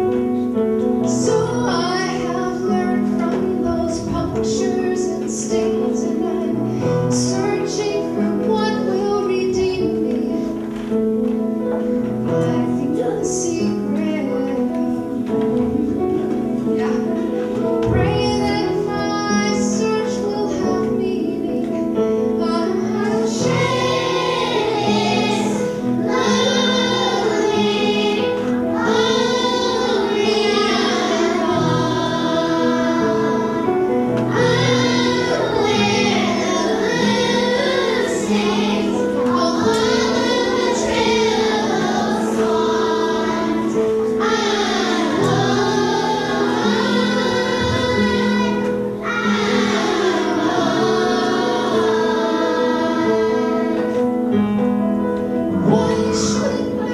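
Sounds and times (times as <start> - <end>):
children's choir singing: 0.0 - 56.9
piano chords: 0.0 - 56.9.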